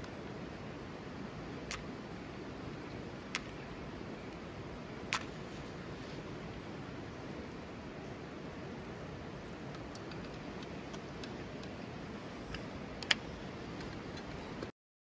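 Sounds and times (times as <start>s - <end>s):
fire crackling: 0.0s - 14.7s.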